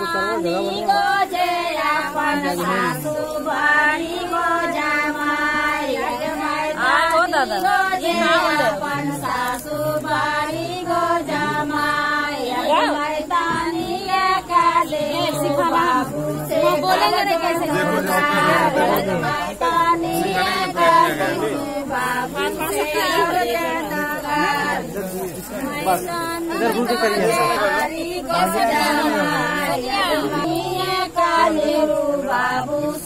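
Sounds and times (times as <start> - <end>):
several voices singing: 0.0 - 33.0.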